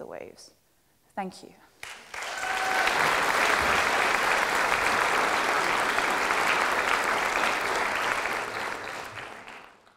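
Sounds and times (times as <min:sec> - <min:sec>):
audience applauding: 0:01.8 - 0:09.9.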